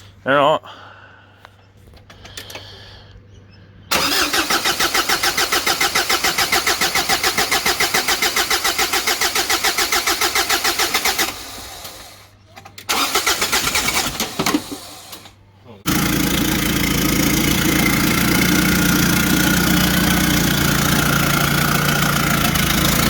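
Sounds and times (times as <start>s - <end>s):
engine starter cranking: 3.9s - 23.0s.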